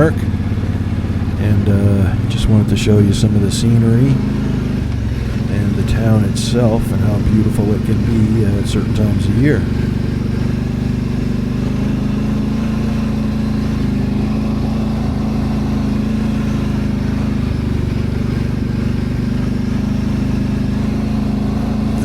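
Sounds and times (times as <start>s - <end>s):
atv engine idling: 0.0s - 22.0s.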